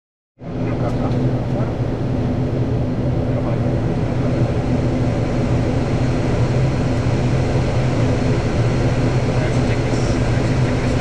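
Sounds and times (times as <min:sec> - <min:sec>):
turboprop engines low hum: 0:00.4 - 0:11.0.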